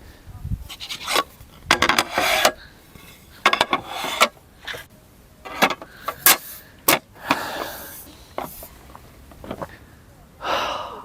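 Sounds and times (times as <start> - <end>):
objects scraping and rubbing: 0.7 - 9.7.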